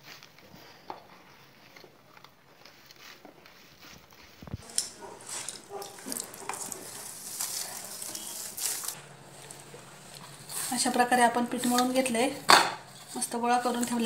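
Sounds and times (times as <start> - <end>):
hands kneading wet dough: 0.0 - 14.0.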